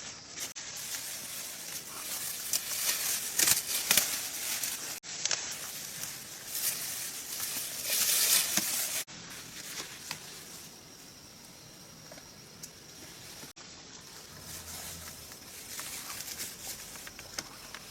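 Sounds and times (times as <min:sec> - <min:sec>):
dry leaves rustling and crackling: 0:00.0 - 0:10.7, 0:13.1 - 0:17.9.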